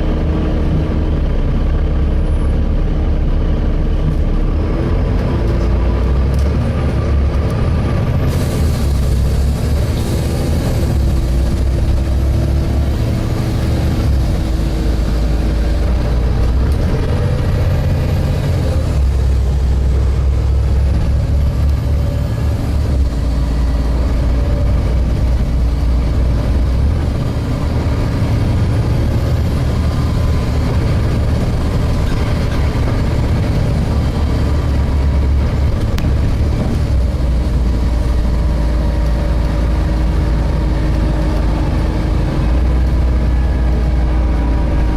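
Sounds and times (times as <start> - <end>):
bus engine rumble: 0.0 - 44.9.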